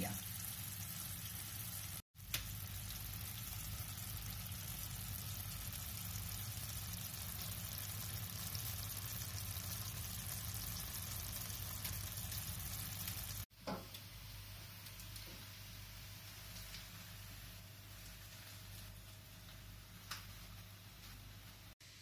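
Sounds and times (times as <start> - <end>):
curry sizzling in frying pan: 0.0 - 22.0.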